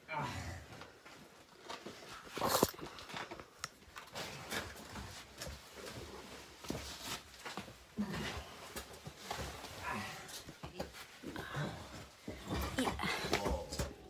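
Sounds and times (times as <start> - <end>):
clothing rustle: 0.9 - 13.7.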